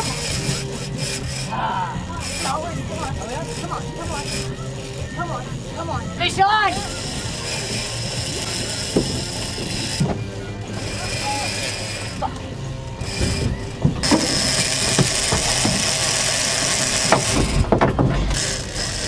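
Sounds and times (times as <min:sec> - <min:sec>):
fishing reel clicker ratcheting: 0:00.0 - 0:17.6, 0:18.3 - 0:19.0.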